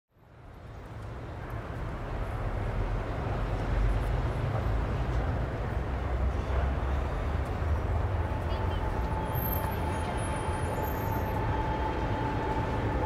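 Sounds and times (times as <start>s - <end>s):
distant traffic rumble: 0.2s - 13.0s.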